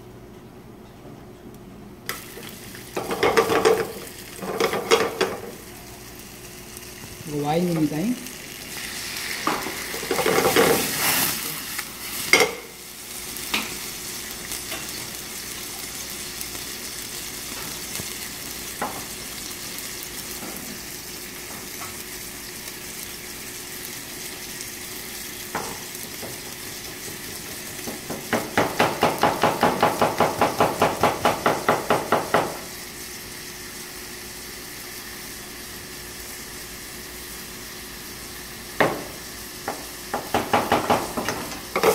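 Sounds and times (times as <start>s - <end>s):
apple slices sizzling in a pan: 2.1s - 41.9s.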